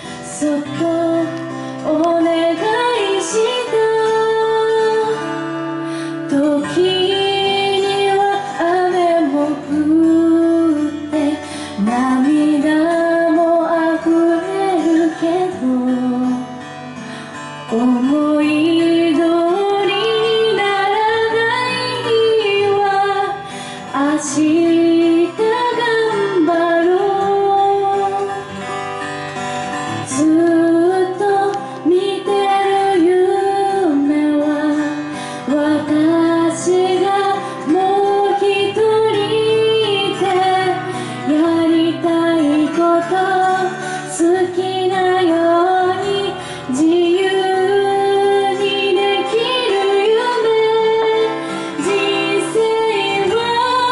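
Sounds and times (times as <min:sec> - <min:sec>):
acoustic guitar: 0:00.0 - 0:53.9
woman singing pop ballad: 0:00.0 - 0:53.9.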